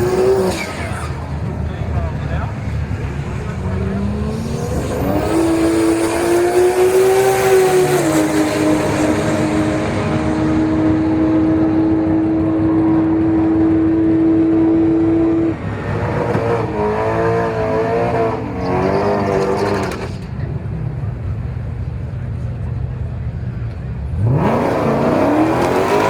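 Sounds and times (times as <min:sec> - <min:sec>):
drag car engine revving: 0:00.0 - 0:20.5, 0:23.7 - 0:26.0.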